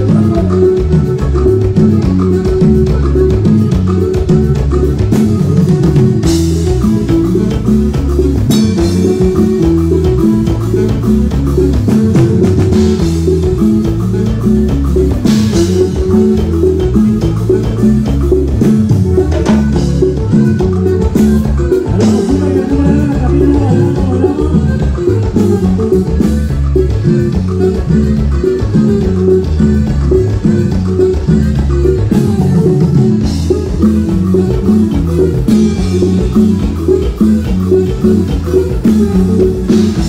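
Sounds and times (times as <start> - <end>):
live latin dance band music: 0.0 - 40.0.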